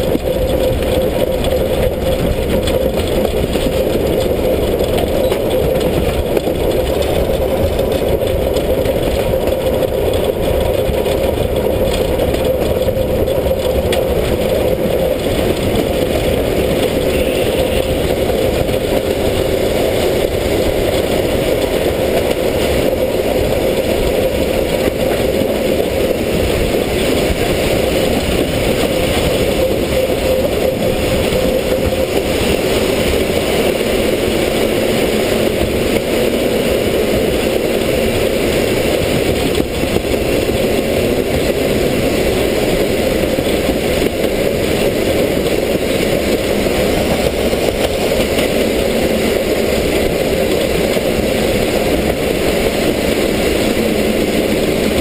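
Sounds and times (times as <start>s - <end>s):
steam locomotive running: 0.0s - 55.0s.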